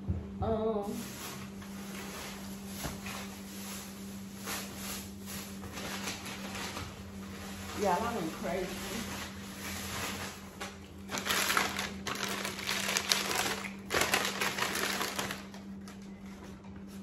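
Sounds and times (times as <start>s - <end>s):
paper bag crinkling: 0.9s - 16.5s.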